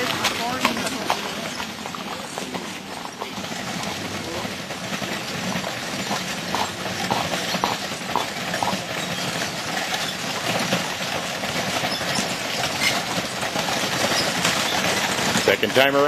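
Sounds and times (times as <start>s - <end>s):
horse hooves clip-clopping: 0.0s - 16.0s
wagon wheels rattling: 0.0s - 16.0s.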